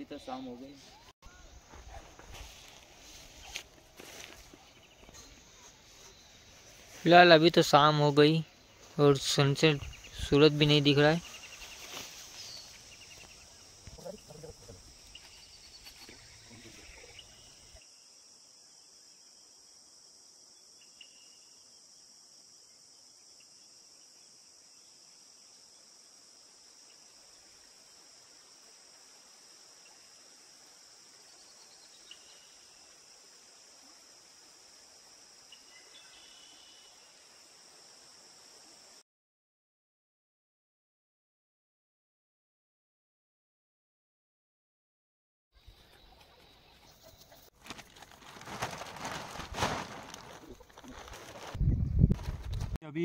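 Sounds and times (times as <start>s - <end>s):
crickets chirring: 0.0s - 39.0s, 47.0s - 52.3s.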